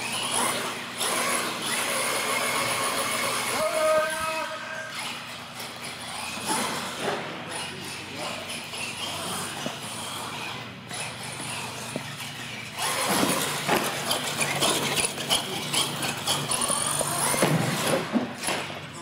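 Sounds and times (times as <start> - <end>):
tyres squealing on concrete: 0.0 - 18.0
toy truck driving: 0.0 - 19.0.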